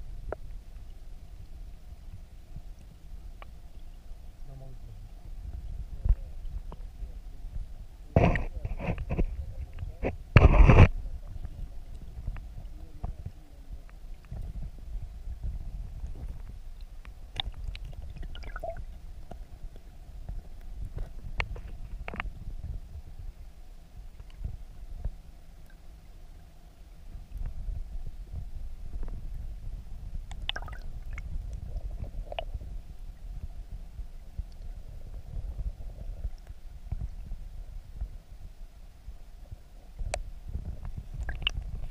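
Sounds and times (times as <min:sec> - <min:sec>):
underwater stream rumble: 0:00.0 - 0:41.9.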